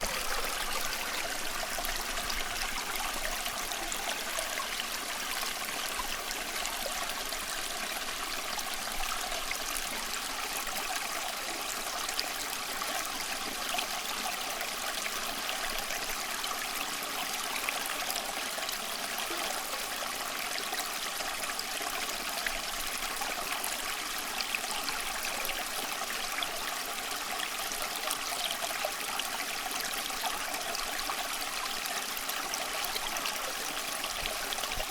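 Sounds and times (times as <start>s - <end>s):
stream water burbling: 0.0s - 34.9s.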